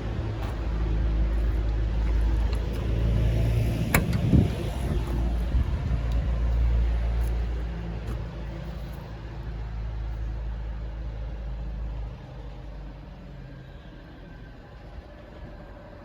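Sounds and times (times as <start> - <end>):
vehicle engine low rumble: 0.0 - 16.0.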